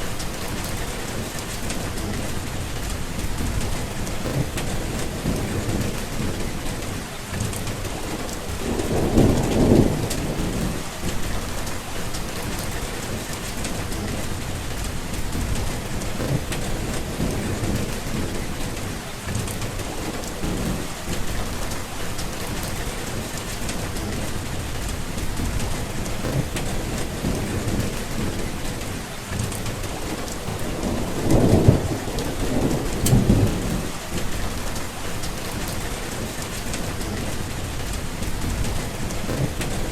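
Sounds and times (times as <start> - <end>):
low thunder rumbles: 0.0 - 39.9
steady rain falling: 0.0 - 39.9.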